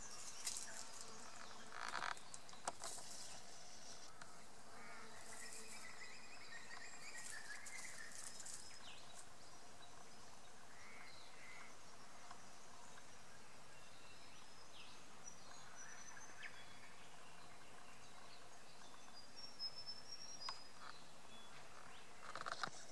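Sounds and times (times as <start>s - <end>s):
steady background hiss: 0.0s - 22.9s.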